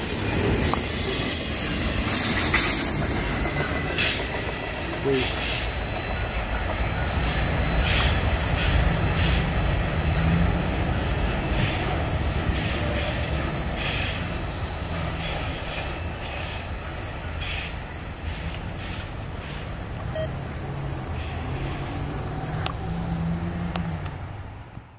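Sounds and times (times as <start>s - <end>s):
train wheels rumbling on track: 0.0s - 24.9s
wheels clicking over rail joints: 0.0s - 24.9s.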